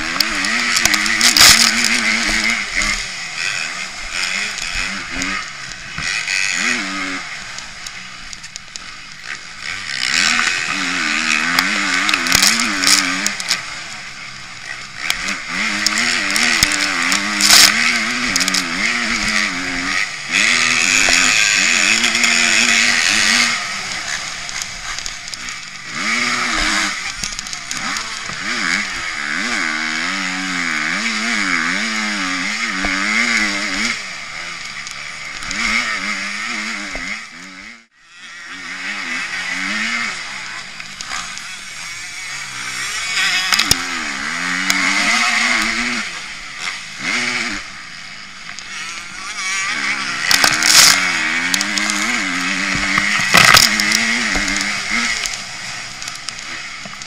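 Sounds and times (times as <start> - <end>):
sharp crack: 0.0 - 37.2, 42.4 - 47.8, 48.4 - 57.0
motocross bike engine revving: 0.0 - 57.0.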